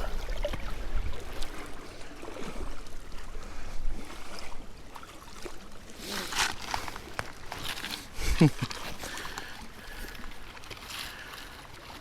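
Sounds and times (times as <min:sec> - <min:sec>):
water lapping around a kayak: 0:00.0 - 0:12.0.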